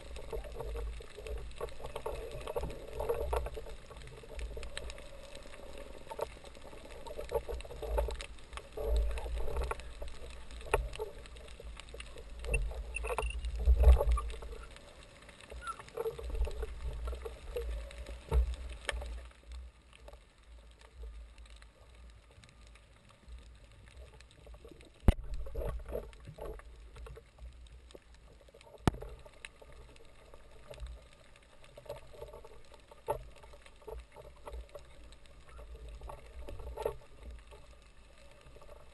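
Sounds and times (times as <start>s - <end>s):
underwater rumbling and sloshing: 0.0s - 38.9s.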